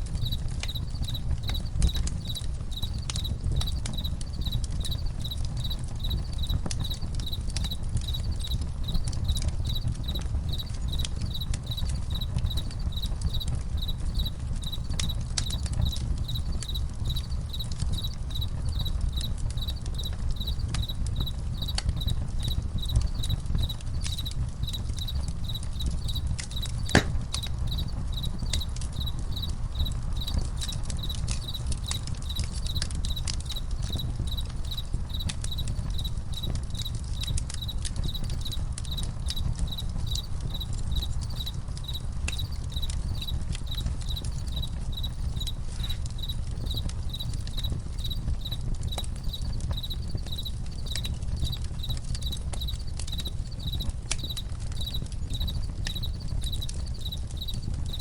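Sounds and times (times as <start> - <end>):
campfire crackling: 0.0 - 58.0
crickets chirping: 0.0 - 58.0.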